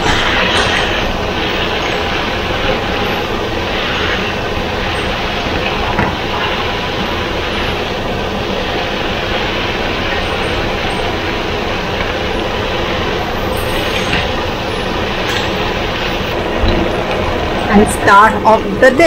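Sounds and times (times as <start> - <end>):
food sizzling in a wok: 0.0 - 17.7.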